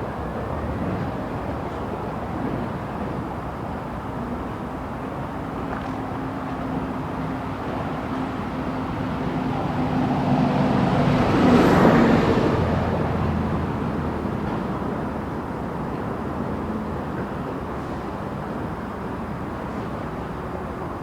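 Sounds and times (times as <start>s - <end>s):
diesel train engine drone: 0.0s - 21.0s
train rumble: 0.0s - 21.0s.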